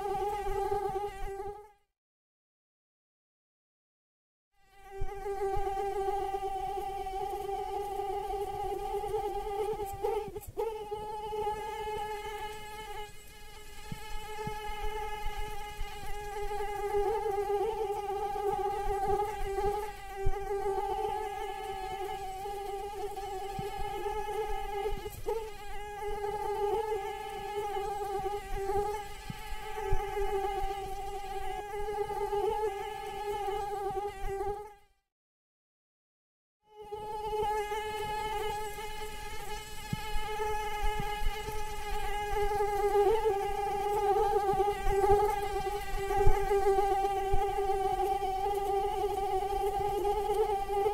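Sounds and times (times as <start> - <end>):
mosquito whine: 0.0 - 1.8, 4.6 - 34.9, 36.7 - 50.9.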